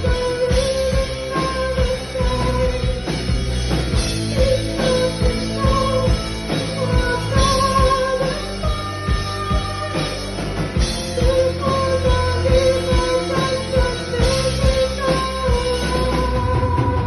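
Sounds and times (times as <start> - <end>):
drum beat: 0.0 - 17.0
rock band playing: 0.0 - 17.0.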